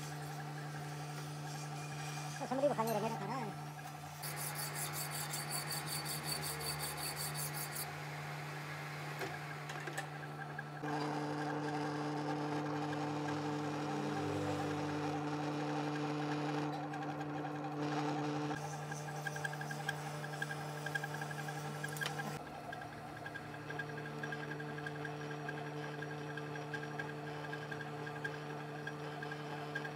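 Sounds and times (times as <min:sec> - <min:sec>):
metal lathe humming: 0:00.0 - 0:29.9.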